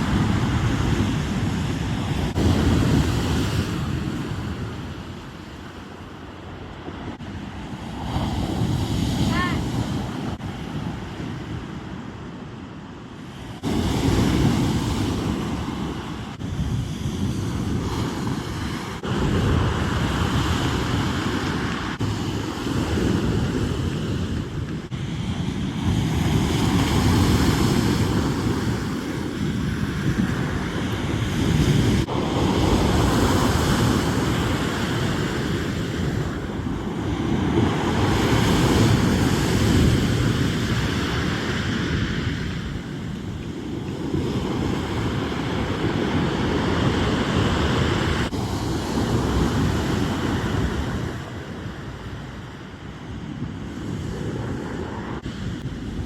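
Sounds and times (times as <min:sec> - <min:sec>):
surf breaking on shore: 0:00.0 - 0:11.4, 0:13.4 - 0:52.1
wind buffeting microphone: 0:00.0 - 0:56.0.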